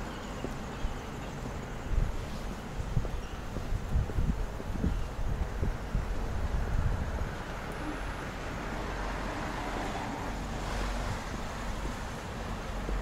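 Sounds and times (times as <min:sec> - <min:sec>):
road traffic: 0:00.0 - 0:13.0
wind rumbling on microphone: 0:00.0 - 0:13.0.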